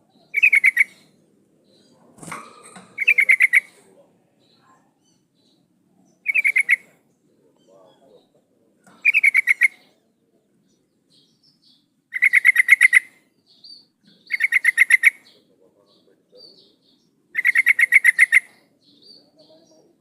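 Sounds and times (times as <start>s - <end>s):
bird chattering call: 0.0s - 10.0s, 10.7s - 19.9s.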